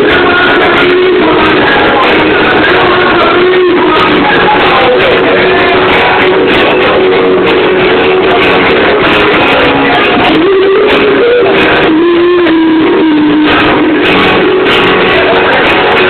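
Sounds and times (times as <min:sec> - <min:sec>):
guitars strumming: 0:00.0 - 0:16.0
live band music: 0:00.0 - 0:16.0
sliding melody line: 0:00.0 - 0:16.0.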